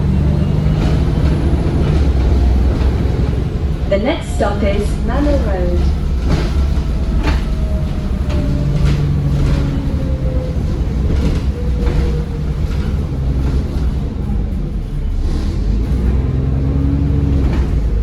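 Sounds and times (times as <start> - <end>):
bus body rattles: 0.0 - 18.0
bus engine rumble: 0.0 - 18.0.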